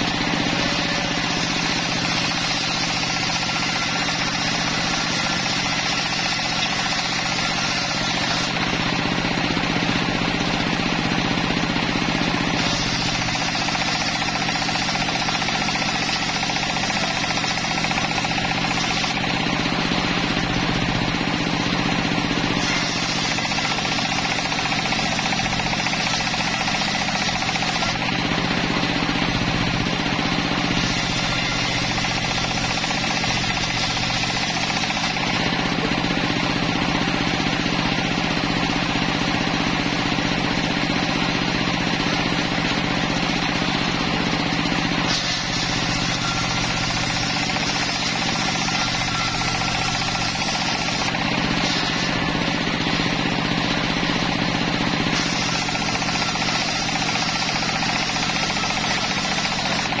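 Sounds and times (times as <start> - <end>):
table saw drone: 0.0 - 39.0, 40.6 - 60.0
saw blade cutting wood: 0.0 - 60.0.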